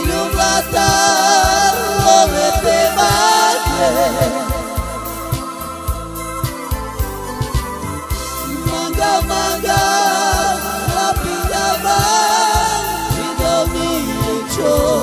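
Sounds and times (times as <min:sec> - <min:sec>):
person singing: 0:00.0 - 0:05.9, 0:08.3 - 0:15.0
band with steady drum beat: 0:00.0 - 0:15.0.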